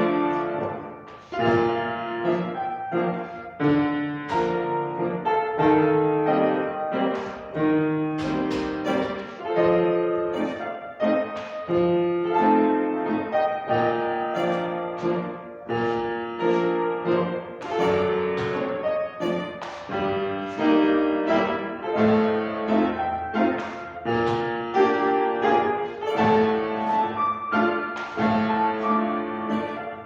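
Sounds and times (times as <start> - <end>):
classical piano accompaniment: 0.0 - 30.0.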